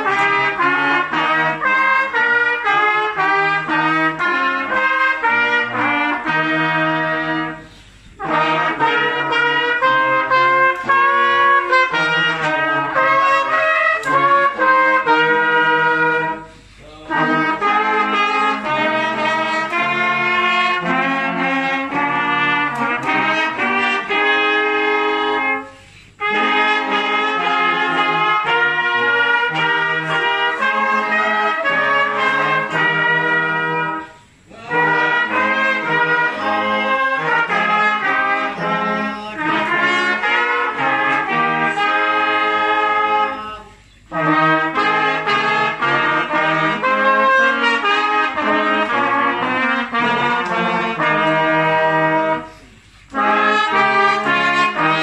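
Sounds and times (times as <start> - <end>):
brass band playing: 0.0 - 55.0
trumpets: 0.0 - 55.0.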